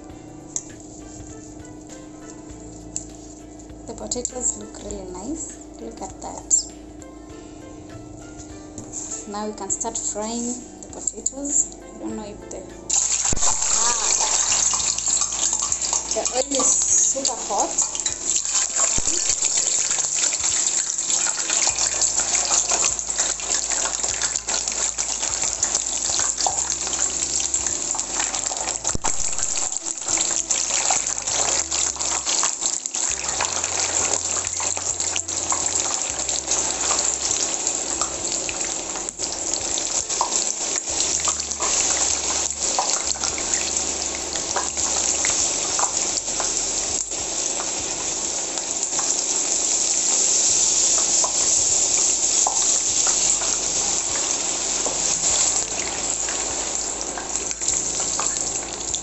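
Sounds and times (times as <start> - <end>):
potatoes sizzling in oil: 0.0 - 59.0.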